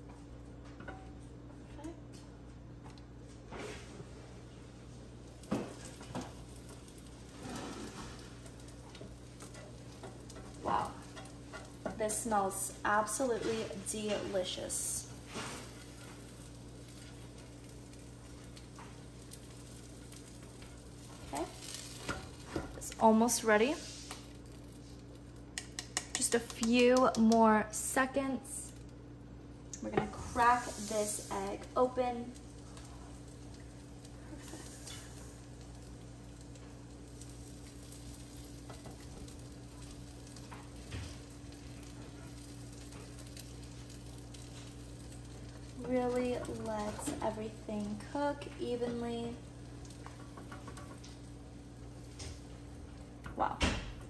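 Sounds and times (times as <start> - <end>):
low steady hum: 0.0 - 54.0
batter sizzling in a pan: 2.9 - 54.0.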